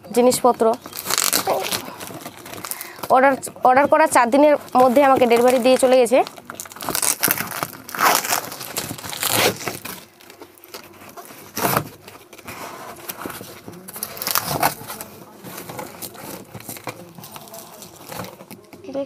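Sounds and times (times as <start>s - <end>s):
plastic packaging crinkling: 0.4s - 18.7s
cardboard box tearing open: 0.8s - 3.0s, 4.7s - 18.5s.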